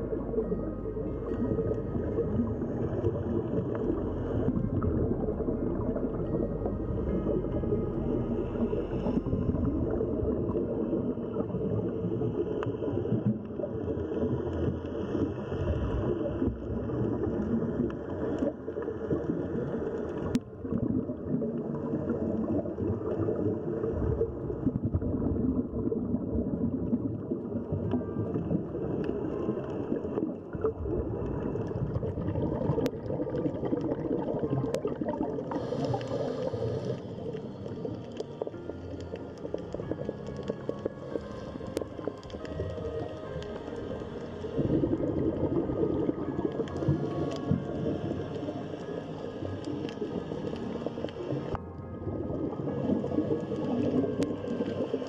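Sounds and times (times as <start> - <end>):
underwater rumble and gurgle: 0.0 - 55.0.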